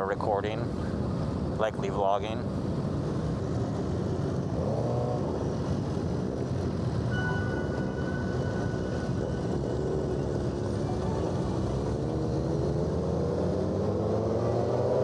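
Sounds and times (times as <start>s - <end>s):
motorcycle engines running: 2.4s - 15.0s.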